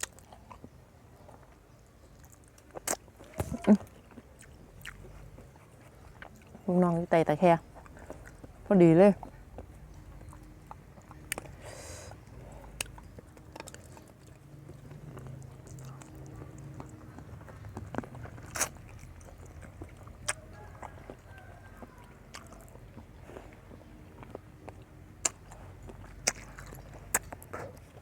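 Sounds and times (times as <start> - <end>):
person chewing food: 0.0 - 6.7, 7.6 - 28.0.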